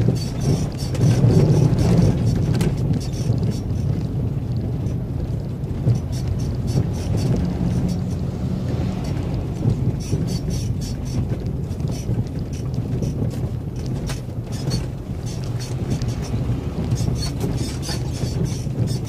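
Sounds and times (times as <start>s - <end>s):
low road rumble: 0.0s - 19.0s
rattles and clicks: 0.0s - 19.0s
vehicle engine running: 0.0s - 19.0s.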